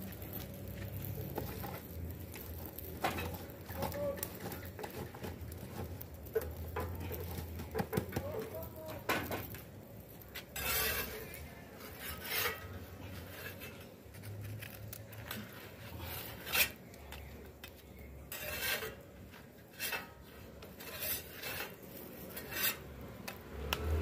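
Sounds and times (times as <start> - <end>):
metal spatula scraping metal griddle: 0.0 - 24.0.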